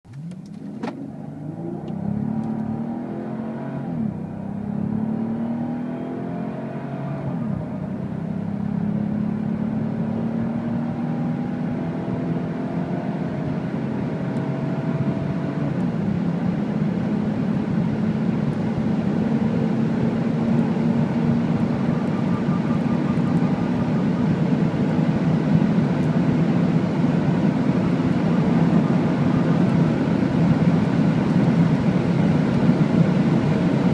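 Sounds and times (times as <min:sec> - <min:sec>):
car engine accelerating hard: 0:00.1 - 0:33.9.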